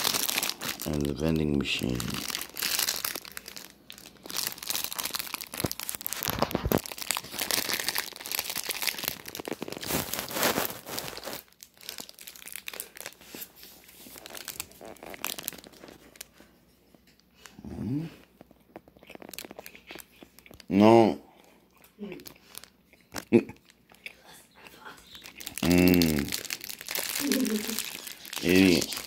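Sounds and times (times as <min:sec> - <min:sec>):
plastic wrapper crinkling: 0:00.0 - 0:17.5, 0:18.3 - 0:20.7, 0:22.2 - 0:24.0, 0:25.1 - 0:29.0.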